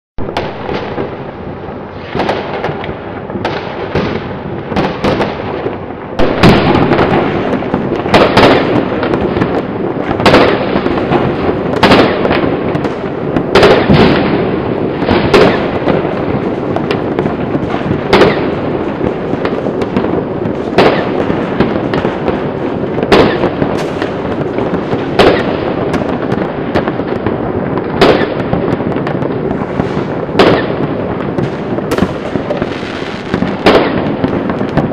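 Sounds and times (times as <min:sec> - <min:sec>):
distant fireworks bangs and crackle: 0:00.2 - 0:34.9
loud firework bangs: 0:00.2 - 0:34.9.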